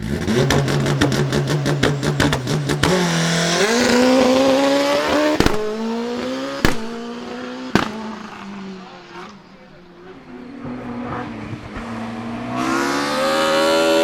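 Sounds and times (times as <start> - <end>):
race car engine accelerating: 0.0 - 14.0
sharp crack of gear upshifts: 0.0 - 14.0.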